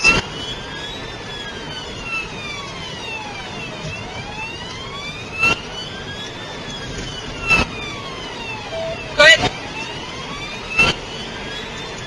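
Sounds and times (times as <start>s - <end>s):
police siren wailing: 0.0s - 12.0s
road and engine noise: 0.0s - 12.0s.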